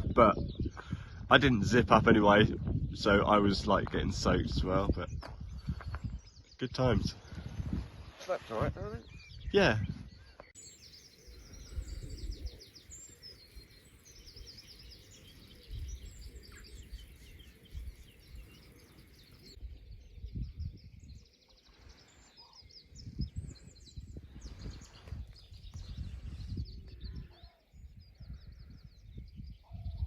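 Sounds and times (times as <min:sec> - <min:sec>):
small birds singing: 0:00.0 - 0:30.0.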